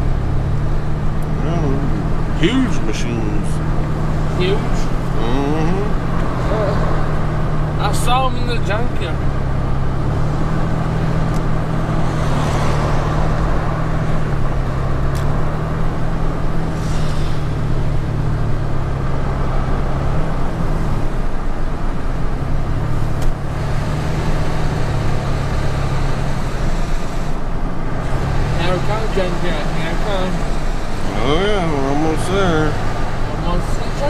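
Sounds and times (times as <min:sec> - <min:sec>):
tyre and road noise: 0:00.0 - 0:34.0
vehicle engine drone: 0:00.0 - 0:34.0.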